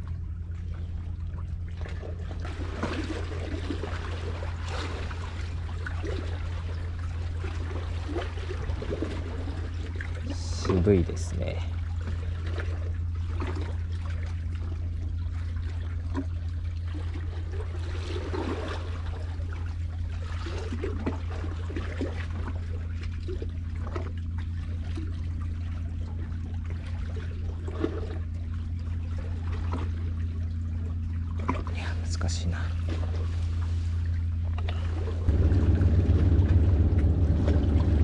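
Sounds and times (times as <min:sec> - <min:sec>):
steady low hum: 0:00.0 - 0:38.0
water lapping against concrete: 0:00.0 - 0:38.0.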